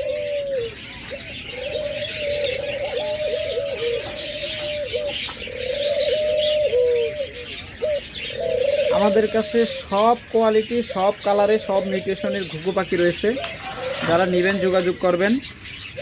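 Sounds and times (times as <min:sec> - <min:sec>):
cage birds chirping: 0:00.0 - 0:16.0
doves cooing: 0:00.0 - 0:16.0.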